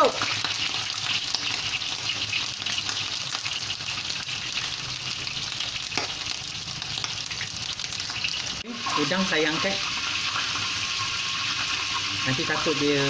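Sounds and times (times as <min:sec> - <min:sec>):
prawns sizzling in oil: 0:00.0 - 0:13.0.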